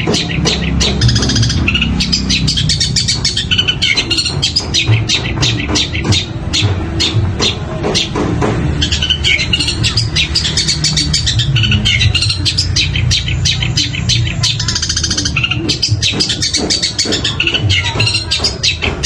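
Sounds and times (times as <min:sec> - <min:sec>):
bird singing sharp varied notes: 0:00.0 - 0:19.0.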